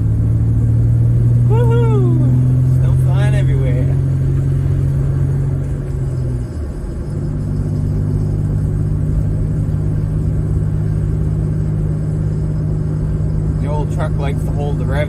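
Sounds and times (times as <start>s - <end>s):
pickup engine running: 0.0s - 15.0s.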